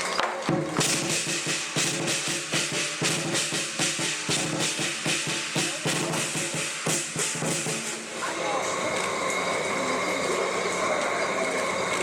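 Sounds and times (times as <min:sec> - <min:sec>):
drum cymbals and gong playing: 0:00.0 - 0:12.0.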